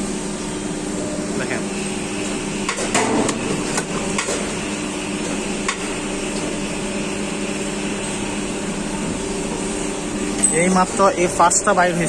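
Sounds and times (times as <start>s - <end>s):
injection moulding machine humming: 0.0s - 12.0s.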